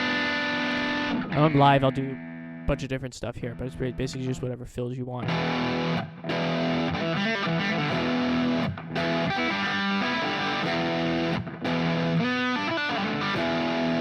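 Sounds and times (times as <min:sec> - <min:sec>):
distorted electric guitar chords: 0:00.0 - 0:02.9, 0:03.5 - 0:04.3, 0:05.2 - 0:14.0.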